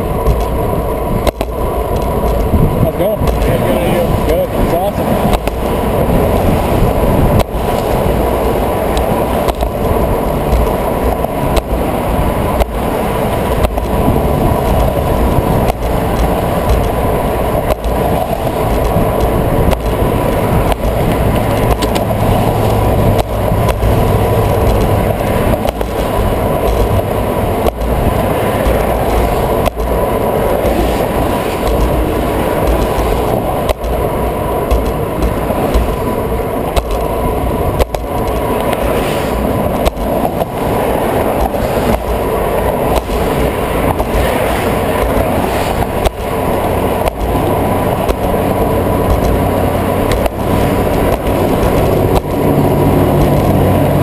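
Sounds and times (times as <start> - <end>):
bicycle rolling over pavement: 0.0 - 54.0
traffic passing: 0.0 - 54.0
wind on microphone: 0.0 - 54.0.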